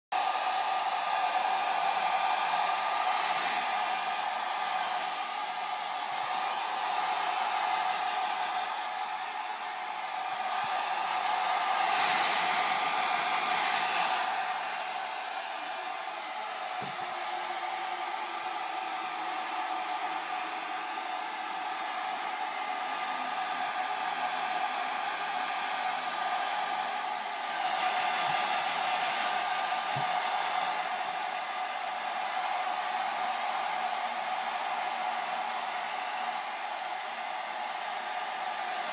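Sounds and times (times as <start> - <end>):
blow dryer running: 0.1 - 38.9.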